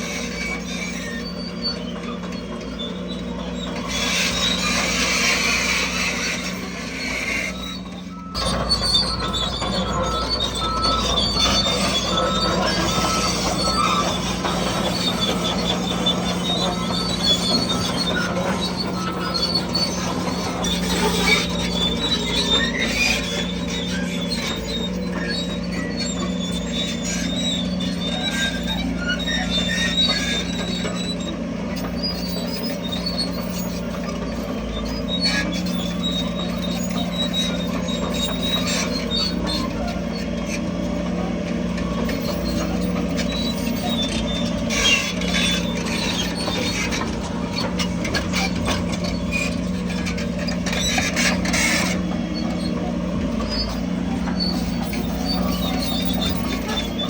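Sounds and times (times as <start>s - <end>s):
heavy diesel machinery running: 0.0s - 57.0s
metallic squeals and clanks: 0.0s - 57.0s.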